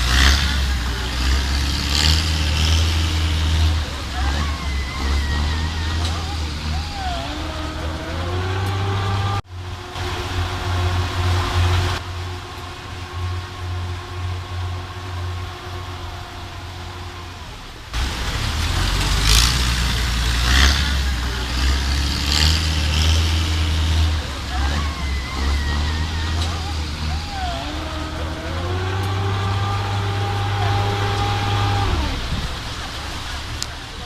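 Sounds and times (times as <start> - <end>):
low engine drone: 0.0 - 34.0
rushing hiss: 0.0 - 34.0.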